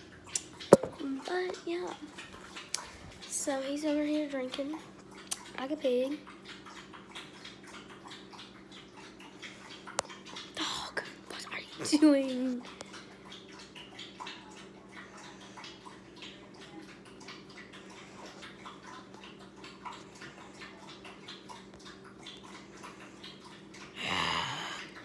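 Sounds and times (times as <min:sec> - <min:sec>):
puppy lapping water from bowl: 0:00.0 - 0:25.0.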